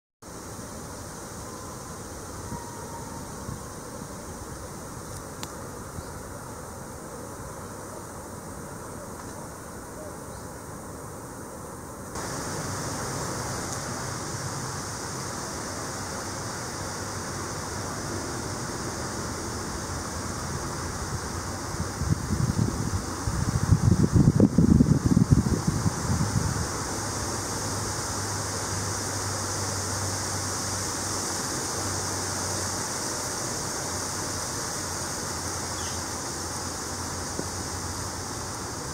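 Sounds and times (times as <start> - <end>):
outdoor background hiss: 0.2 - 38.9.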